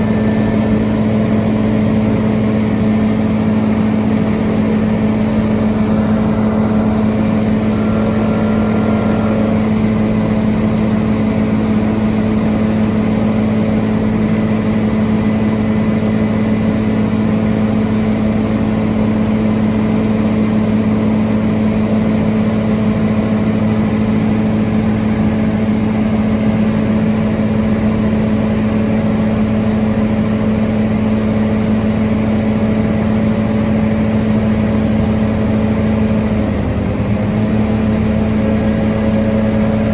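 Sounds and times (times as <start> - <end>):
excavator pile driver drone: 0.0 - 39.9.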